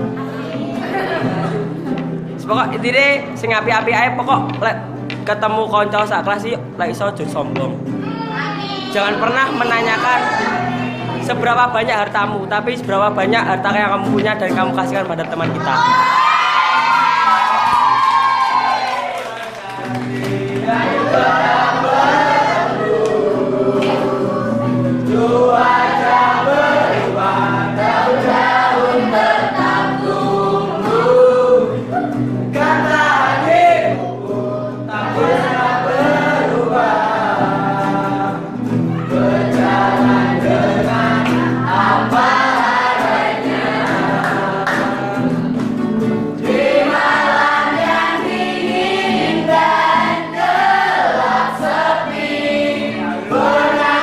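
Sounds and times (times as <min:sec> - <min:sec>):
young voices singing in chorus: 0:00.0 - 0:02.2, 0:07.9 - 0:11.5, 0:15.4 - 0:45.5, 0:46.3 - 0:54.0.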